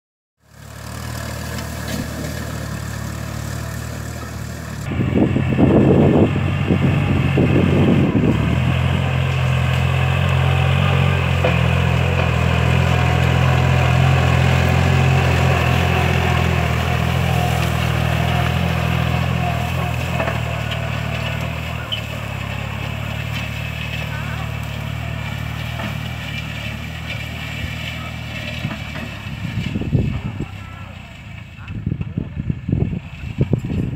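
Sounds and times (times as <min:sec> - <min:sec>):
rough irregular plough noise: 0:00.4 - 0:33.9
tractor diesel engine running: 0:00.4 - 0:33.9.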